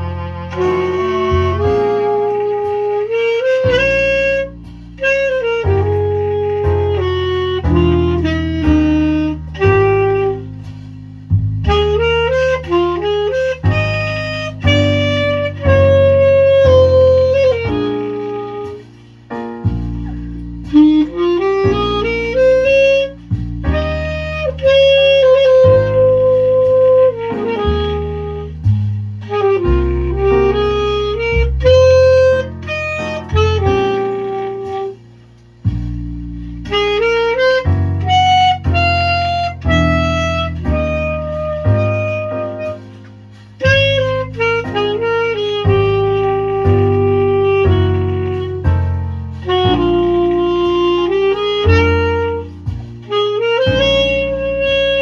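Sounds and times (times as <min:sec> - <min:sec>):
alto saxophone jazz melody: 0:00.0 - 0:55.0.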